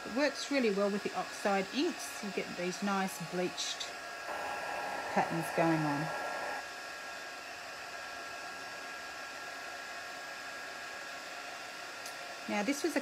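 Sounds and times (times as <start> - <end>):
heat tool blowing hot air: 0.0 - 13.0.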